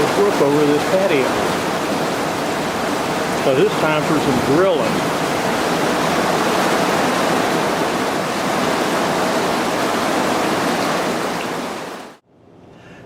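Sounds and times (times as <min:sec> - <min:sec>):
heavy rain pouring: 0:00.0 - 0:12.2.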